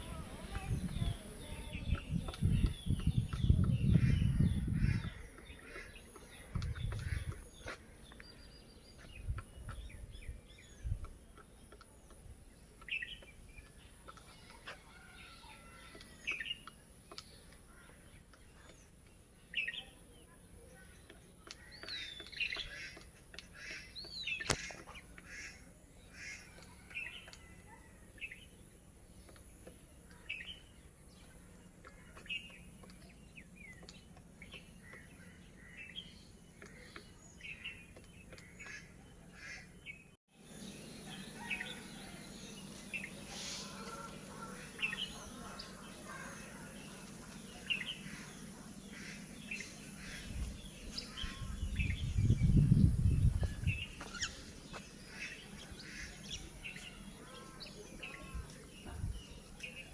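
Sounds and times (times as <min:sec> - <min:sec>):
bird chirps: 0:00.0 - 0:59.9.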